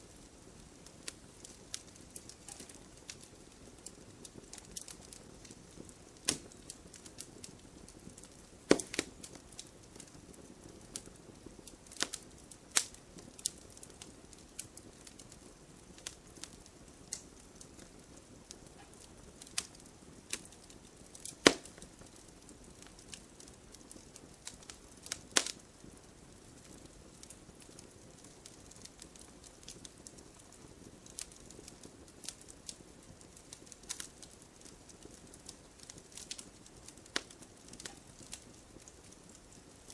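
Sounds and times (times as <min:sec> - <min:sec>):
faint steady hiss: 0:00.0 - 0:39.9
campfire pops and snaps: 0:00.2 - 0:39.9.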